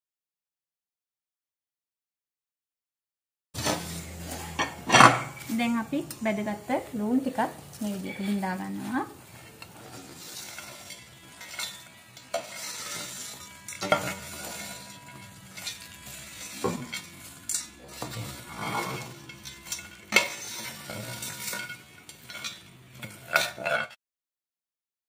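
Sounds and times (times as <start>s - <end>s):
metal spoon scraping pot: 3.6s - 24.0s.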